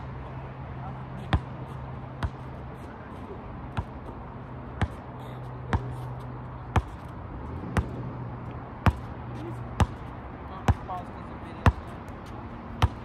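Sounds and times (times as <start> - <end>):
basketball bouncing on asphalt: 1.2 - 2.6, 3.7 - 13.0.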